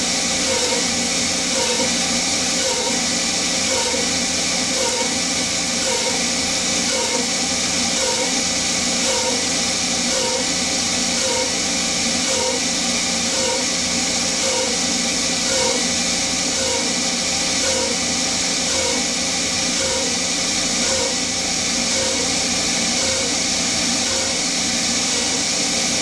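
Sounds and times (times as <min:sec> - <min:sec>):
air compressor: 0:00.0 - 0:26.0
spindle hum: 0:00.0 - 0:26.0.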